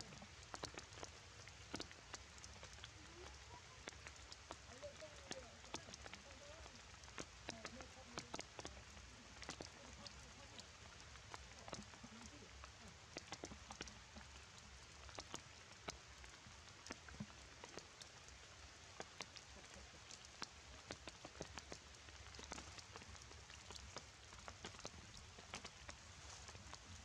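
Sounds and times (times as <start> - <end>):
rain patter on wet ground: 0.0 - 27.0.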